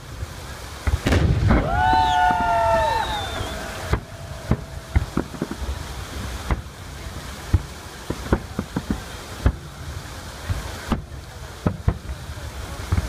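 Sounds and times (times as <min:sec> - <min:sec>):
fireworks bangs: 0:00.0 - 0:13.0
fountain water rushing: 0:00.0 - 0:13.0.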